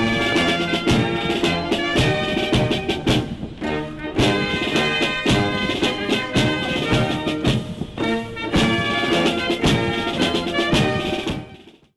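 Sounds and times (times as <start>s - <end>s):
brass band playing a march: 0.0s - 11.8s
strong drum beat: 0.0s - 11.9s.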